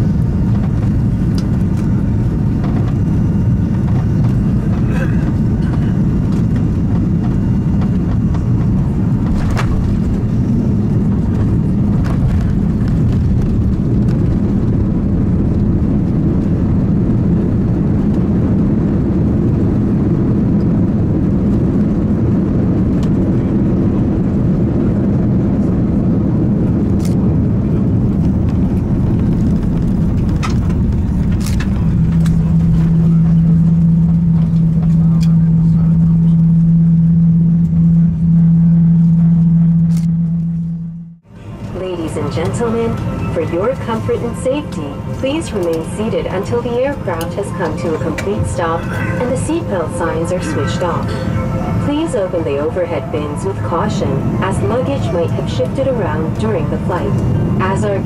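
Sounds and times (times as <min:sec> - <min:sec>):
engines and wheels rumbling: 0:00.0 - 0:58.0
steady hum: 0:00.0 - 0:58.0.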